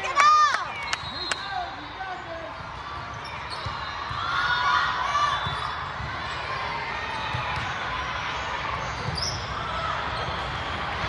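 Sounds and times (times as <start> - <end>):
many voices and players' calls: 0.0 - 11.0.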